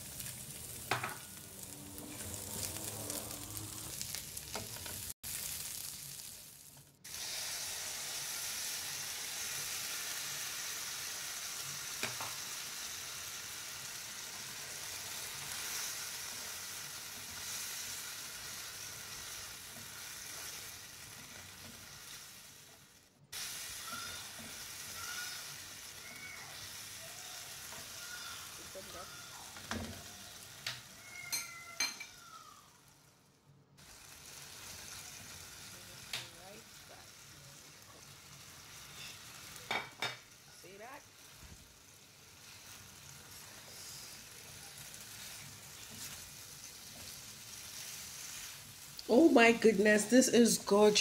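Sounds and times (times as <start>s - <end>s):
vegetables sizzling in hot oil: 0.0s - 51.0s
spatula stirring in a wok: 4.0s - 31.2s, 33.8s - 49.0s.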